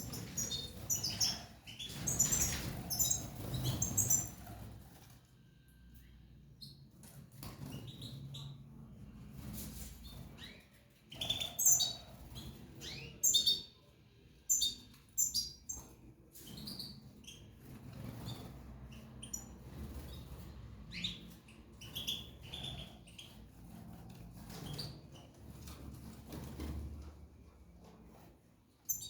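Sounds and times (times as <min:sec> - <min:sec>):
small birds chirping: 0:00.0 - 0:26.8, 0:28.2 - 0:29.0.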